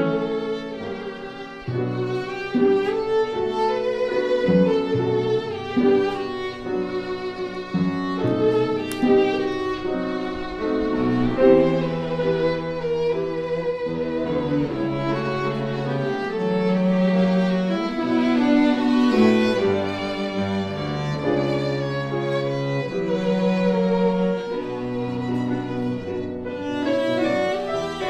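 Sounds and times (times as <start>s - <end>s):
held accompaniment notes: 0.0s - 28.0s
violin melody with vibrato: 0.0s - 28.0s.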